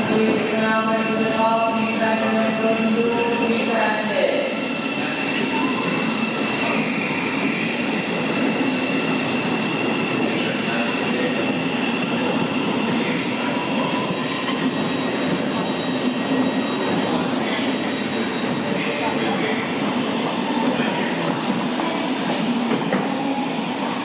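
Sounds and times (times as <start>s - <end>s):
electric train rumbling on rails: 0.0s - 24.0s.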